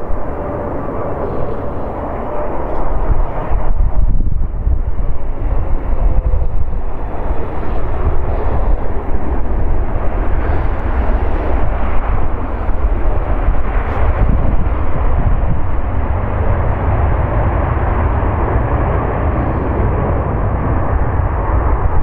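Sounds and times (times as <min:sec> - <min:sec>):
jet engine rumble: 0:00.0 - 0:22.0
wind buffeting microphone: 0:00.0 - 0:22.0.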